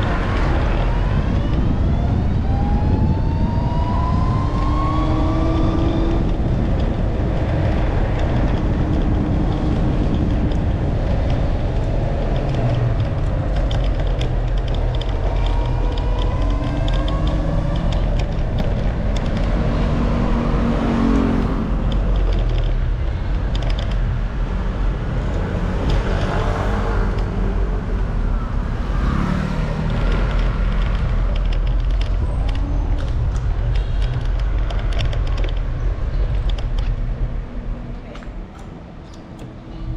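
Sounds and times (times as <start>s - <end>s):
vehicle engines passing: 0.0s - 39.9s
wind rushing over microphone: 0.0s - 39.9s.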